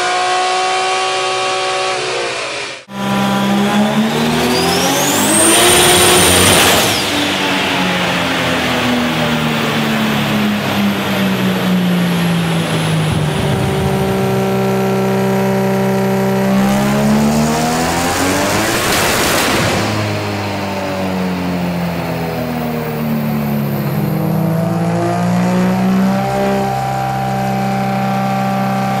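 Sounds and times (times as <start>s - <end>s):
car engine revving on a dyno: 0.0s - 29.0s
high whine: 1.7s - 28.3s.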